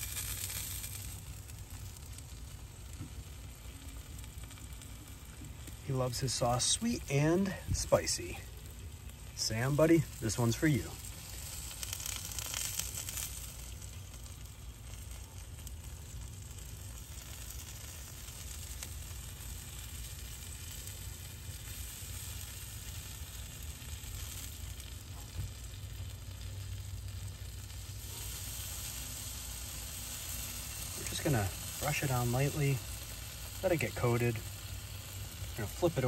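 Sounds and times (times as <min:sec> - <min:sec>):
bright crackling: 0:00.0 - 0:36.0
food sizzling on a grill: 0:00.0 - 0:36.0.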